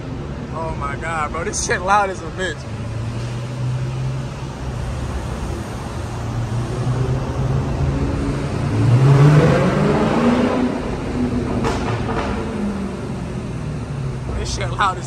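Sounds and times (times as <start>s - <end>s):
car engine revving: 2.7s - 15.0s.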